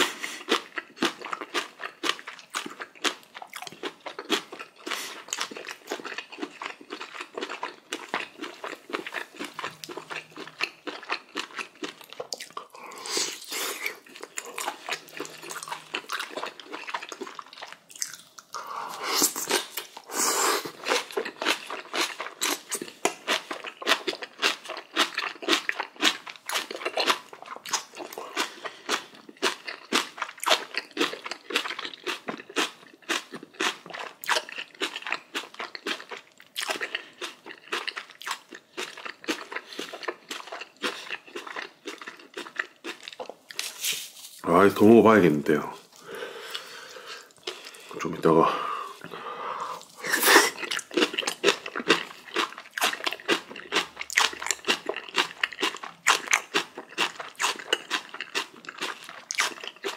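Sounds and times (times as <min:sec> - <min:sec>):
person chewing crunchy food: 0:00.0 - 0:44.9, 0:45.5 - 0:59.9.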